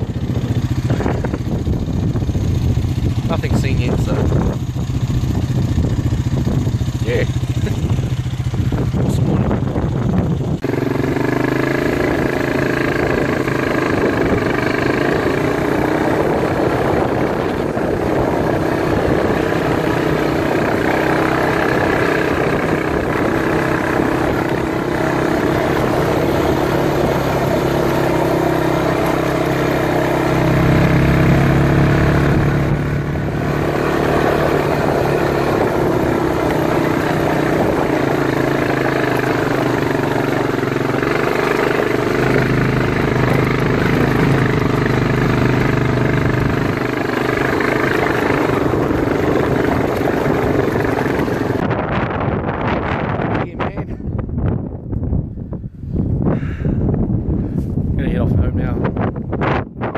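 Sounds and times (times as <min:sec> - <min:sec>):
quad bike engine under load: 0:00.0 - 0:54.6.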